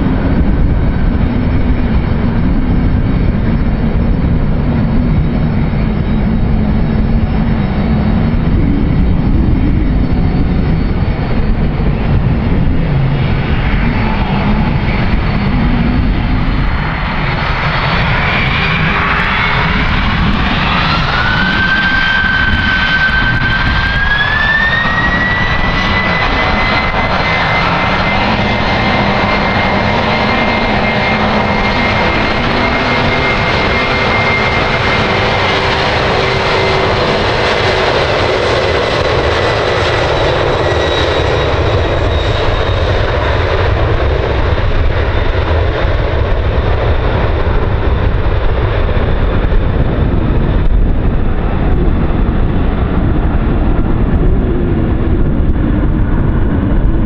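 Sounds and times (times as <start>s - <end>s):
engine whine rising in pitch: 0.0s - 57.0s
jet engines running: 0.0s - 57.0s.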